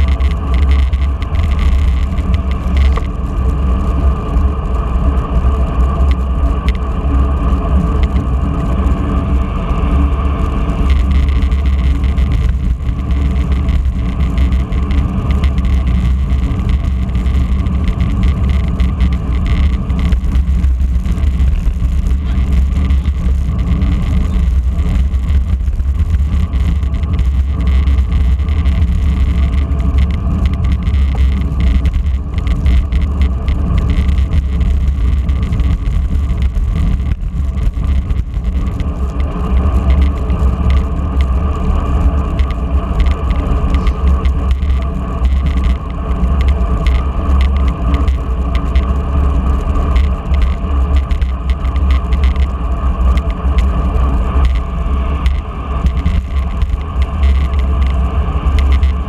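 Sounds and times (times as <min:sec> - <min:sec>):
bicycle tyre and road noise: 0:00.0 - 0:59.0
wind rushing over microphone: 0:00.0 - 0:59.0.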